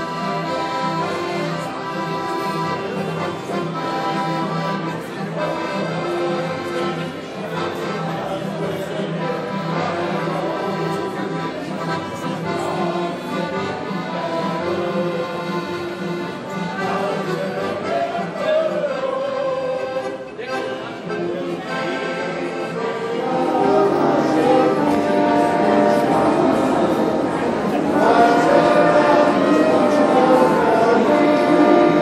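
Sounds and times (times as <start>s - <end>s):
accordion: 0.0s - 32.0s
acoustic guitar: 4.3s - 32.0s.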